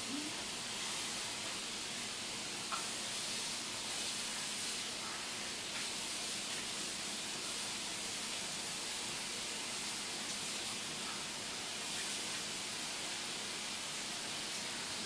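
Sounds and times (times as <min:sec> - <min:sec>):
meat sizzling in a frying pan: 0:00.2 - 0:15.0.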